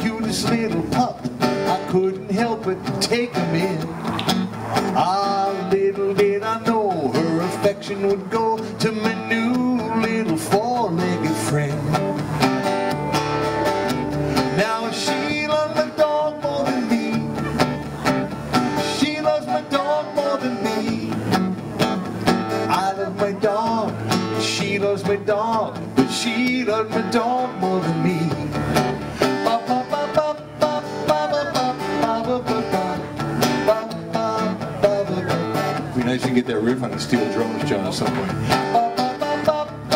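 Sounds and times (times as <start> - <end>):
man singing: 0.0 - 4.2, 4.8 - 12.1, 14.4 - 21.6, 22.5 - 39.9
acoustic guitar playing: 0.0 - 39.9.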